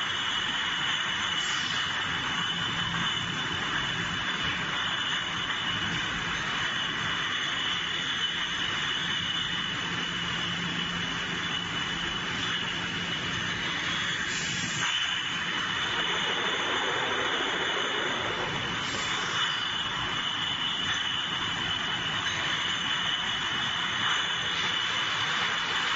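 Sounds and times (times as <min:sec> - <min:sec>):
machinery drone with high whine: 0:00.0 - 0:25.9.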